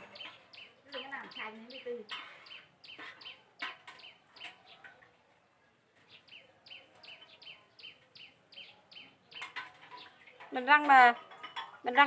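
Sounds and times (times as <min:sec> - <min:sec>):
bird chirping: 0:00.0 - 0:05.1, 0:06.0 - 0:10.6.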